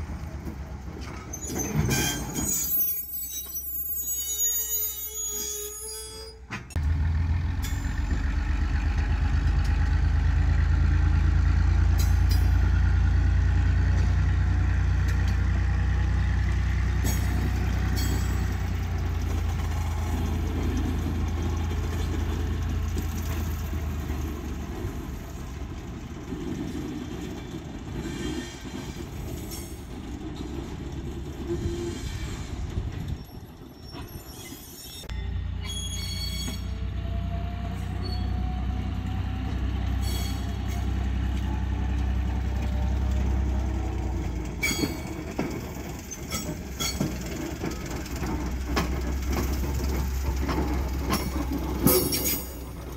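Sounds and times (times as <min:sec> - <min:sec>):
diesel locomotive rumbling: 0:00.0 - 0:52.9.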